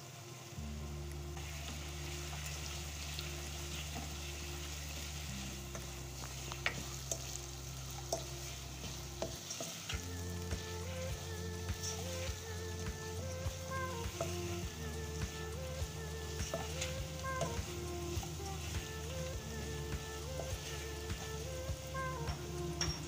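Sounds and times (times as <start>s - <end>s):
potatoes sizzling in hot oil: 0.0s - 23.0s
soft background music: 0.0s - 23.0s.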